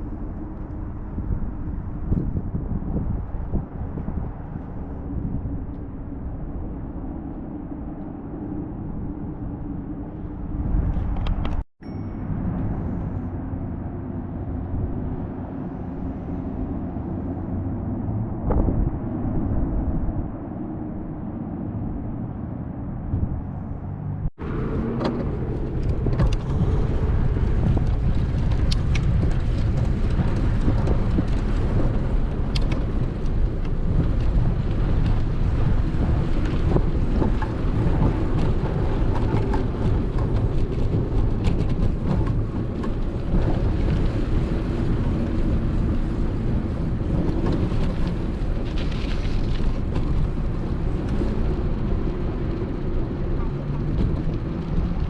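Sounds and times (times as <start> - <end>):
outdoor rumble: 0.0 - 55.0
wind on microphone: 0.0 - 55.0.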